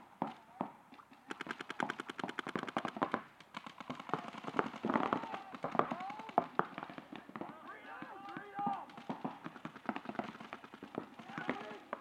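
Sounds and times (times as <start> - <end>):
paintball markers firing: 0.2 - 12.0.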